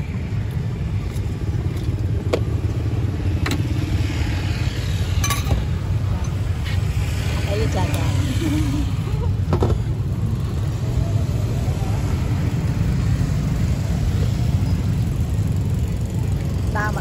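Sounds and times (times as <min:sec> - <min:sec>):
low street rumble: 0:00.0 - 0:17.0.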